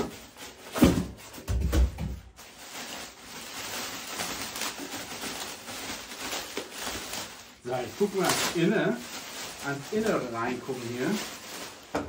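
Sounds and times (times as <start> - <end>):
handling and rustling of parts: 0.0 - 12.0.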